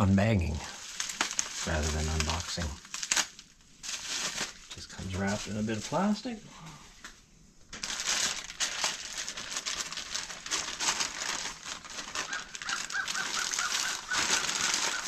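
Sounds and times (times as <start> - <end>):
plastic wrapping crinkling: 0.2 - 6.3, 7.0 - 15.0.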